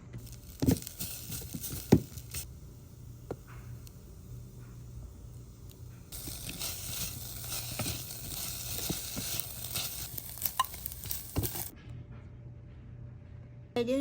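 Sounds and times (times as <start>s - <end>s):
fried rice sizzling in a pan: 0.2s - 11.7s.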